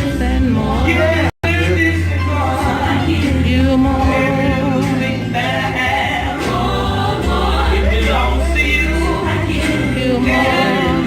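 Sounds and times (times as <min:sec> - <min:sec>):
band playing: 0:00.0 - 0:11.0
gospel choir singing: 0:00.0 - 0:11.0
sustained bass notes: 0:00.0 - 0:11.0.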